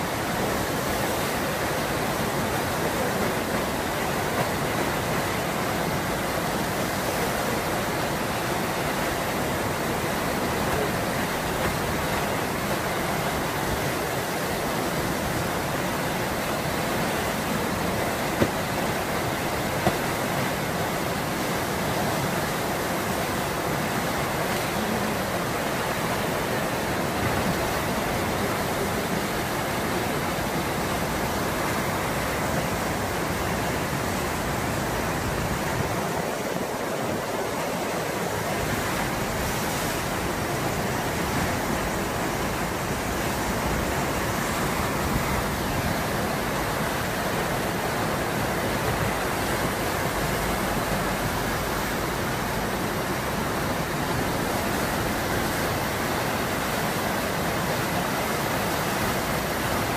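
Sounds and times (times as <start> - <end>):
fast water rushing: 0.0 - 59.9.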